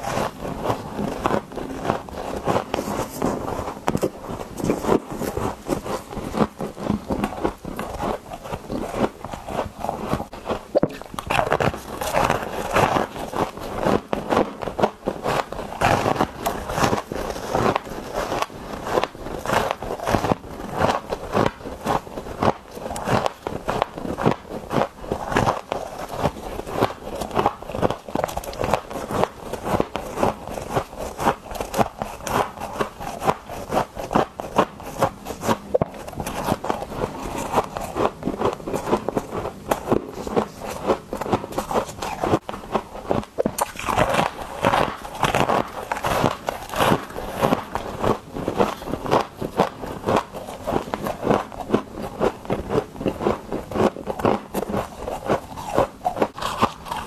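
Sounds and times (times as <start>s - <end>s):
chewing crunchy frost: 0.0s - 57.0s.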